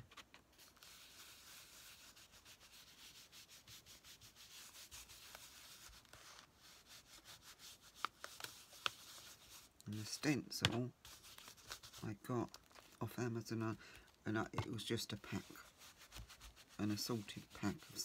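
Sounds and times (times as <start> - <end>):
tool scrubbing on paper: 0.6 - 10.2, 11.0 - 13.0, 14.0 - 18.0.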